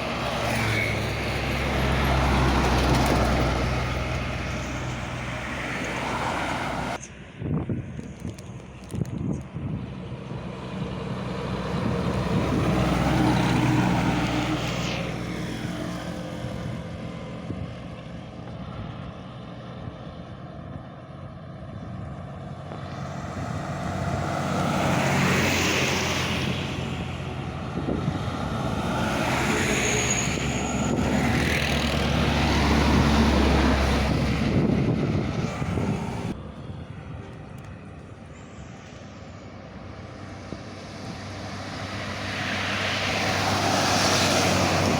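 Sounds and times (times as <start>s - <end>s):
heavy trucks passing by: 0.0s - 44.9s.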